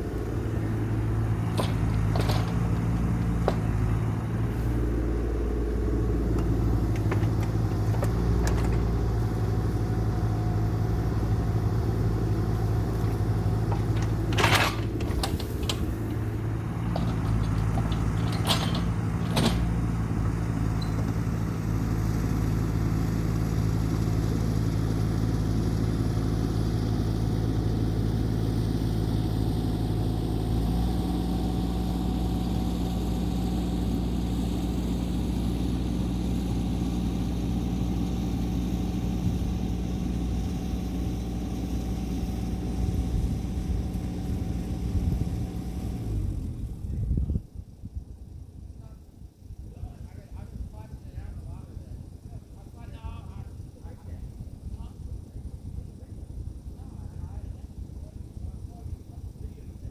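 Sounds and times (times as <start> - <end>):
diesel engine running: 0.0 - 49.7, 50.4 - 59.9.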